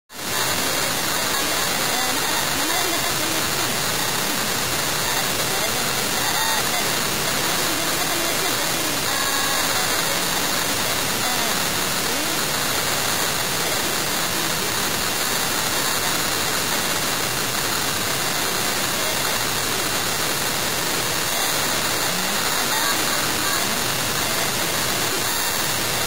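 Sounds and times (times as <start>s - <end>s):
faint voices: 0.2s - 26.0s.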